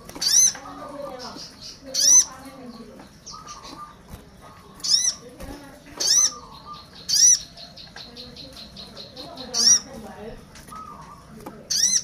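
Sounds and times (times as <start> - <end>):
bird high-pitched calls: 0.0 - 12.0
faint bird twittering: 0.0 - 12.0.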